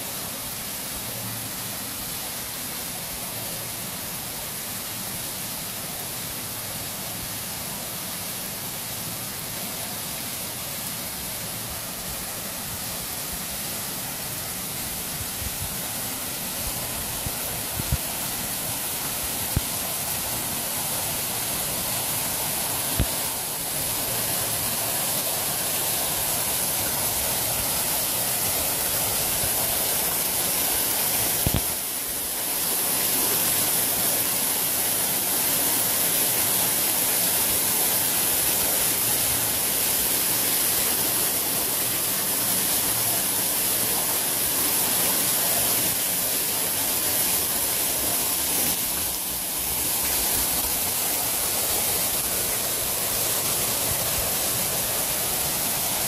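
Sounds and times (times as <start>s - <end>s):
waterfall splashing into pool: 0.0s - 56.0s.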